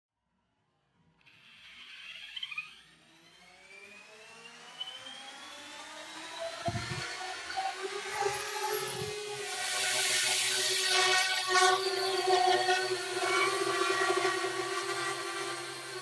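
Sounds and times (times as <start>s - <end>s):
drone motors whirring: 1.3s - 16.0s.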